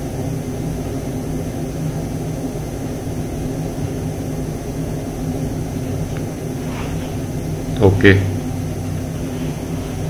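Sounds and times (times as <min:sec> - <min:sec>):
motor droning: 0:00.0 - 0:10.0.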